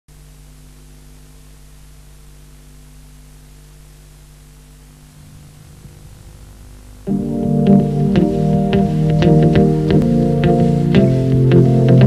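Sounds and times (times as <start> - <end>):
low electrical hum: 0.1 - 12.0
steady hiss: 0.1 - 12.0.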